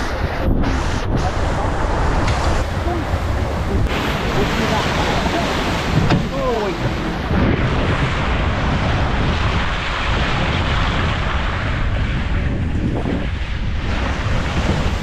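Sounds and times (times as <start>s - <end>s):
vehicle rumbling on rough road: 0.0s - 15.0s
wind buffeting microphone: 0.0s - 15.0s.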